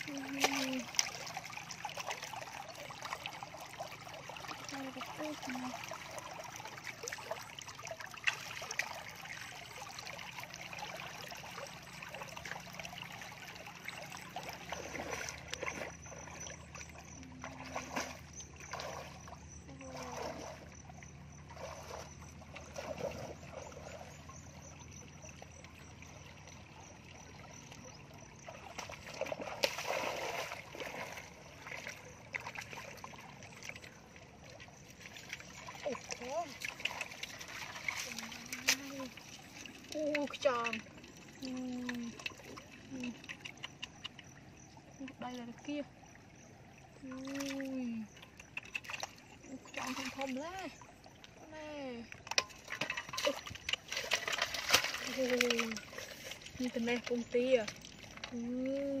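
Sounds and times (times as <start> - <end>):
feet wading in muddy water: 0.0 - 59.0.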